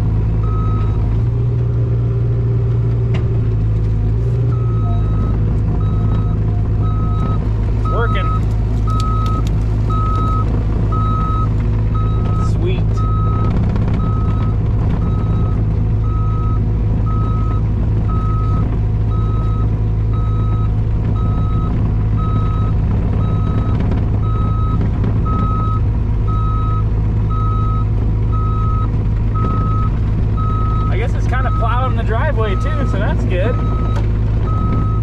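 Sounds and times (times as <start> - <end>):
diesel engine running under load: 0.0 - 35.0
reversing alarm beeping: 4.5 - 31.8, 32.5 - 35.0.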